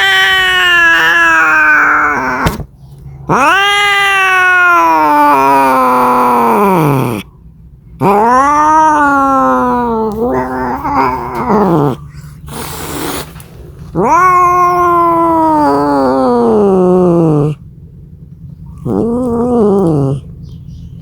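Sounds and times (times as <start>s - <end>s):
cat yowling: 0.0s - 2.6s, 3.2s - 7.3s, 8.0s - 13.1s, 13.9s - 17.6s, 18.8s - 20.3s
cat hissing: 0.0s - 7.3s, 8.0s - 17.6s, 18.8s - 20.3s.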